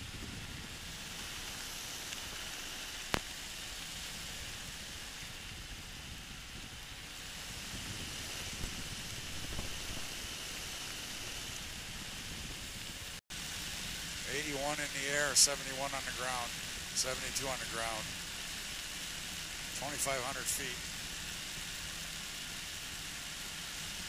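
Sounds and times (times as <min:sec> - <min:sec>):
microlight wind and engine hiss: 0:00.0 - 0:24.0.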